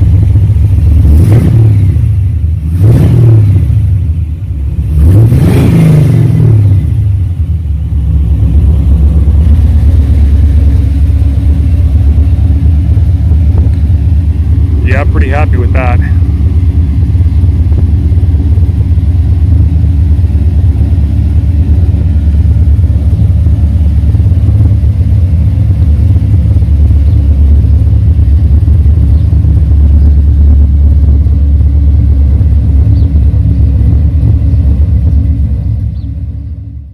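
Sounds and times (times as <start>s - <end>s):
truck engine idling: 0.0s - 2.8s, 3.6s - 5.2s, 6.6s - 36.9s.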